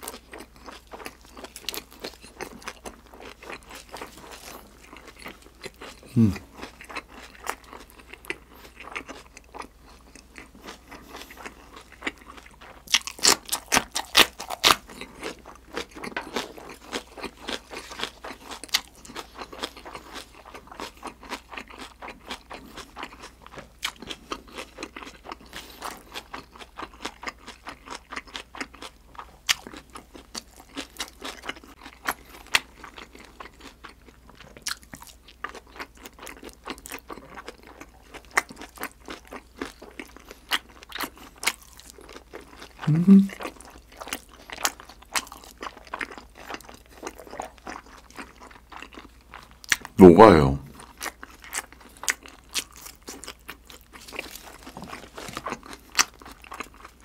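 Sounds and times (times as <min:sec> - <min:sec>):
person chewing crunchy chili: 0:00.0 - 0:57.0.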